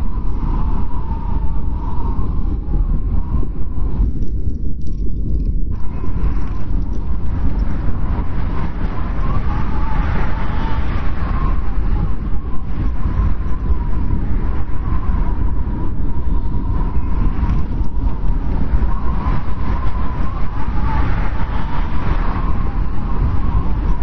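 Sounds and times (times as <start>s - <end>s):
strong wind blowing: 0.0s - 24.0s.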